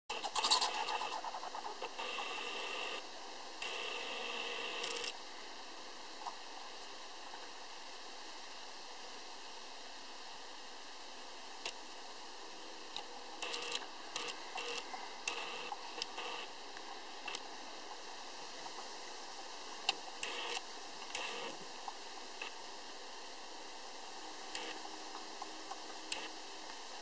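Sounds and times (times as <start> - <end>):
steady hiss: 0.1 - 27.0.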